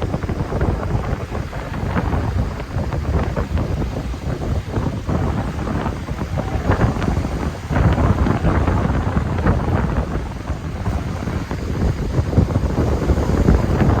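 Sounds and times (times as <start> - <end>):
sea rushing: 0.0 - 14.0
wind buffeting microphone: 0.0 - 14.0.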